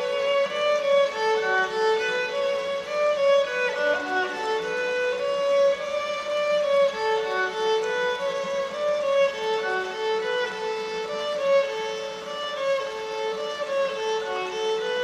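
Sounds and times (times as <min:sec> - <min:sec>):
solo violin slow melody: 0:00.0 - 0:15.0.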